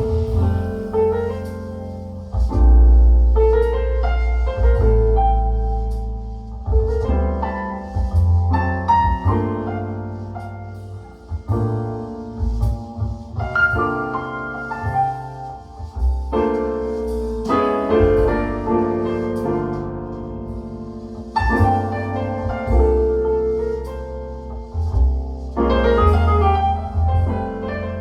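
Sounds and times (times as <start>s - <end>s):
piano music over loudspeakers: 0.0s - 28.0s.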